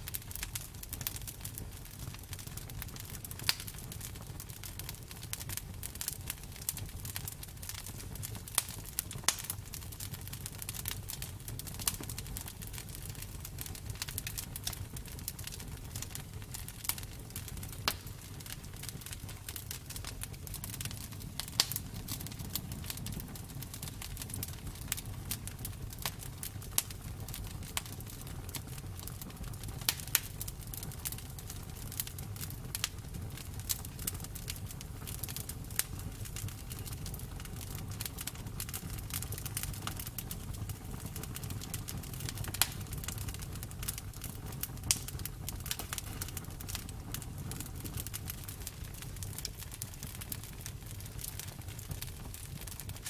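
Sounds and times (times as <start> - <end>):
bonfire crackling and popping: 0.0 - 53.0
low rumble of flames: 0.0 - 53.0.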